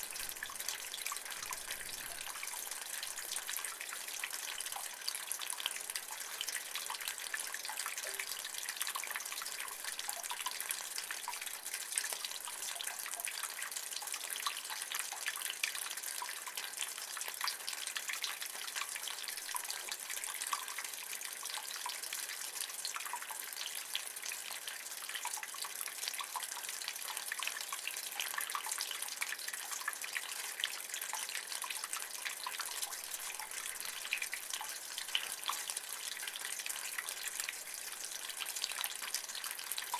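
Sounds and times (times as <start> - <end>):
rainwater running in a gutter: 0.0 - 39.9
small drip ticks: 0.0 - 39.9.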